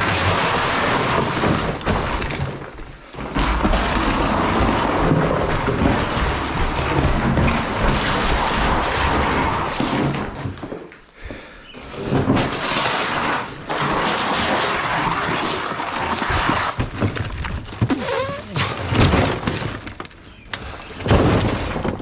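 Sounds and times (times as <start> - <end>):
debris crashing into trailer: 0.0 - 10.8, 12.0 - 22.0.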